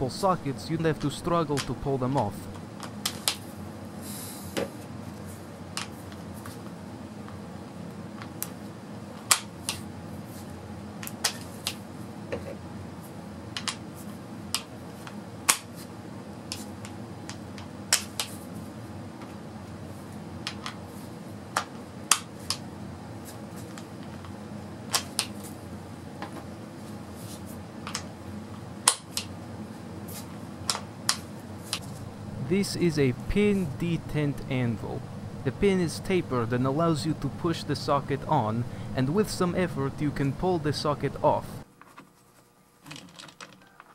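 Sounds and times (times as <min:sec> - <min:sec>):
low room hum: 0:00.0 - 0:43.9.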